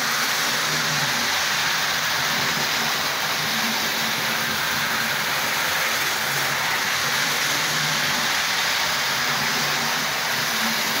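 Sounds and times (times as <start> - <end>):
model train whirring rumble: 0.0 - 11.0.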